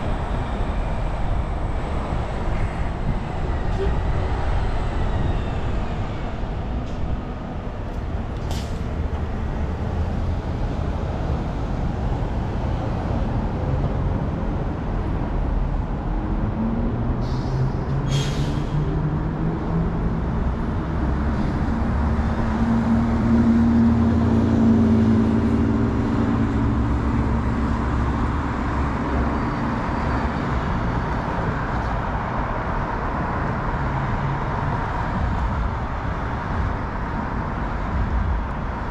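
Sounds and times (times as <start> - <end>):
large vehicle engine hum: 0.0 - 38.9
passing traffic rumble: 0.0 - 38.9.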